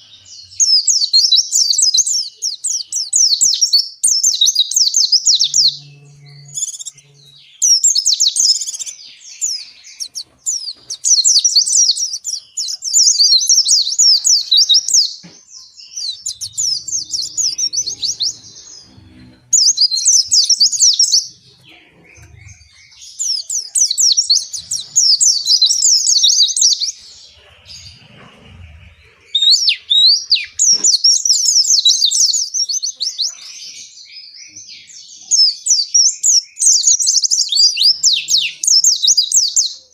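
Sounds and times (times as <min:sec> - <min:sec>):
bird twittering warbles: 0:00.0 - 0:33.3.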